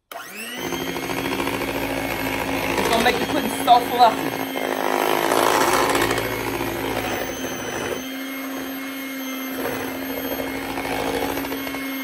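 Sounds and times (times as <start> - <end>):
electric hand mixer whipping cream: 0.0 - 12.0.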